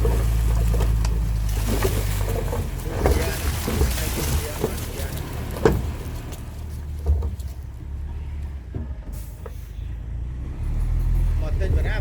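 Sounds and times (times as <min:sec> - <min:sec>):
heavy diesel machinery rumbling: 0:00.0 - 0:12.0.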